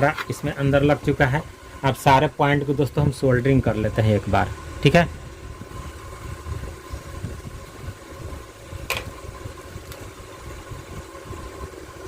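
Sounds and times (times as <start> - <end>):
faint steady whine: 0.0 - 12.0
low mechanical rumble: 0.0 - 12.0.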